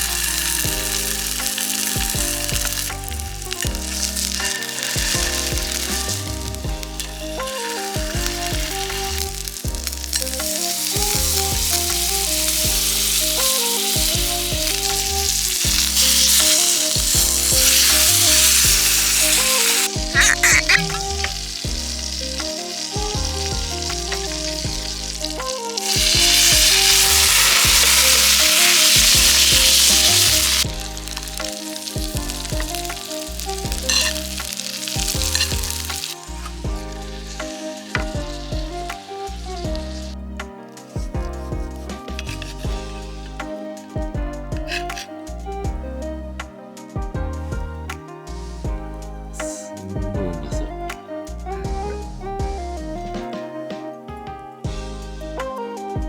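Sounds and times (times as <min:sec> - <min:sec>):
steak sizzling in a hot pan: 0:00.0 - 0:45.8.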